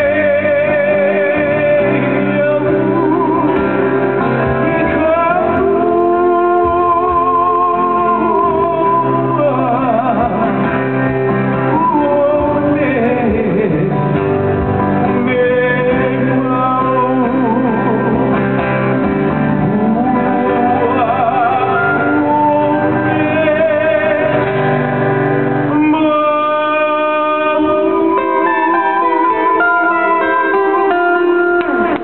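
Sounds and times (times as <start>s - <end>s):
acoustic guitars strumming: 0.0s - 32.0s
man singing: 0.0s - 32.0s.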